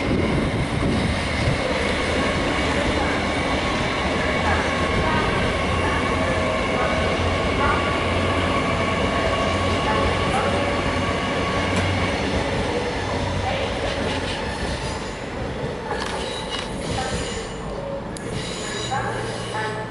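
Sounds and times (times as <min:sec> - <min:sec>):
train rail running noise: 0:00.0 - 0:19.9
train whine: 0:00.0 - 0:19.9.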